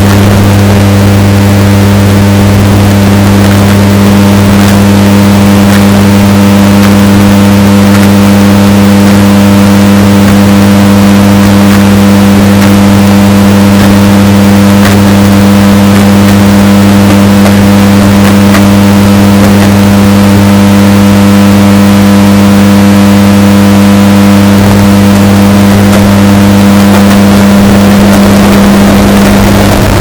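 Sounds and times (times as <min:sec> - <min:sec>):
washing machine motor hum: 0:00.0 - 0:30.0.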